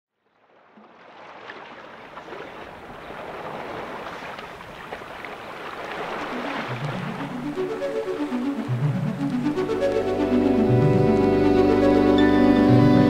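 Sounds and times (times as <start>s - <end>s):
rushing water: 0.2s - 13.0s.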